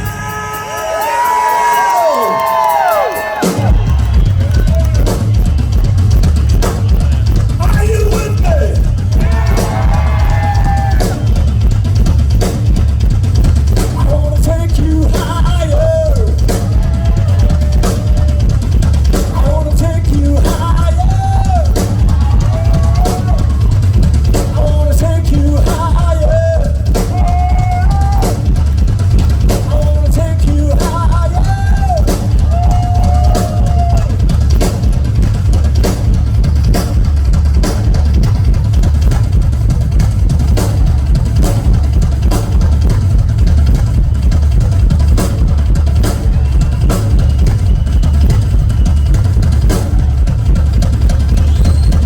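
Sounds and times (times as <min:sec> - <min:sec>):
rock drum solo: 0:00.0 - 0:52.0.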